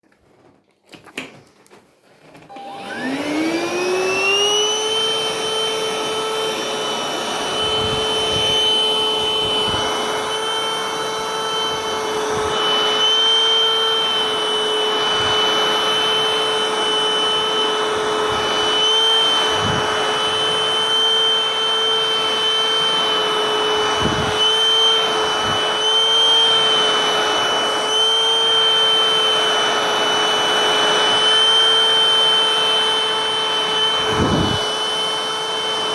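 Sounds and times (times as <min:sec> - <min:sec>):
vacuum cleaner motor whining: 0:00.2 - 0:35.9.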